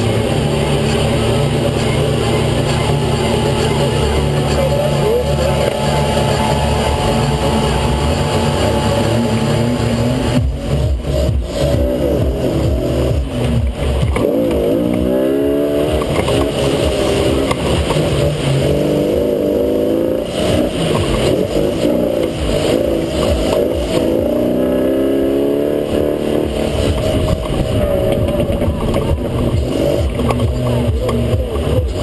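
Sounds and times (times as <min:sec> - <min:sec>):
engine revving hard: 0:00.0 - 0:32.0.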